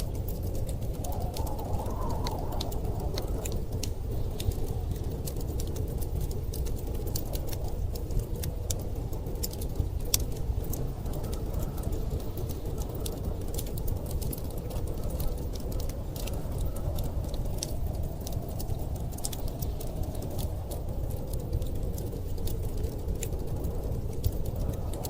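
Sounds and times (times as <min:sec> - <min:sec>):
storm wind rushing: 0:00.0 - 0:25.0
wood fire crackling and popping: 0:00.0 - 0:25.0.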